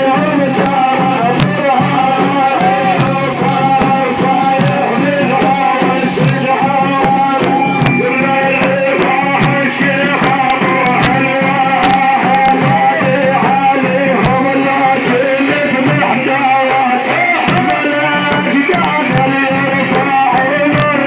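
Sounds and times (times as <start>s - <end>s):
devotional praise singing: 0.0s - 21.0s
drum beat: 0.0s - 21.0s.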